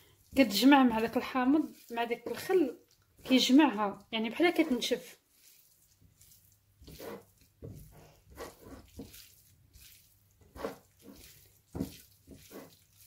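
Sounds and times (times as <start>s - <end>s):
wet squelches of raw liver: 0.0s - 13.0s.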